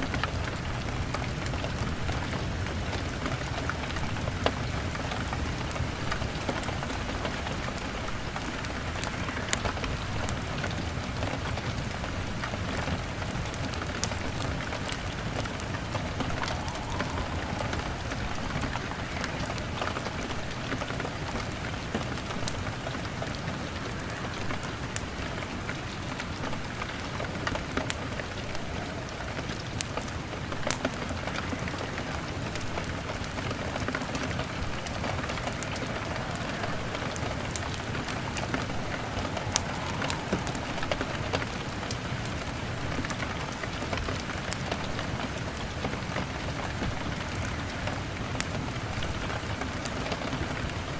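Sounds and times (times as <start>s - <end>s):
fire crackling: 0.0s - 50.9s
rain pattering on window: 0.0s - 50.9s.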